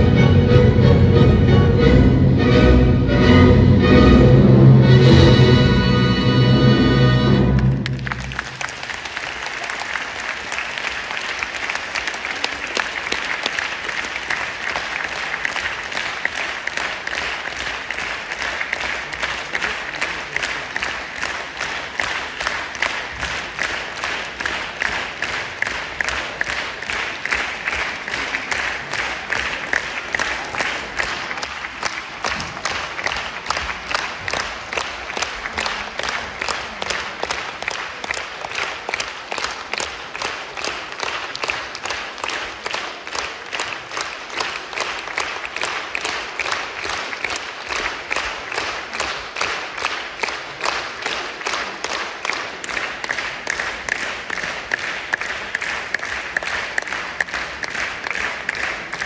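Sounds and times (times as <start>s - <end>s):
audience applauding: 5.9s - 59.0s.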